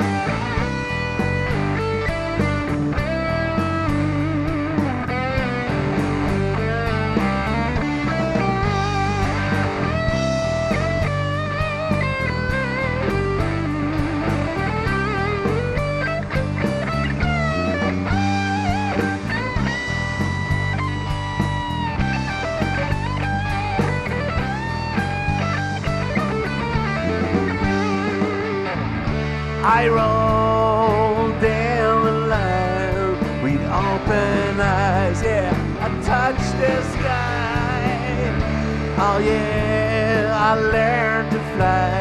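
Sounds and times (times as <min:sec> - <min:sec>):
bass: 0:00.0 - 0:42.0
electric guitar solo: 0:00.0 - 0:42.0
steady drum beat: 0:00.0 - 0:42.0.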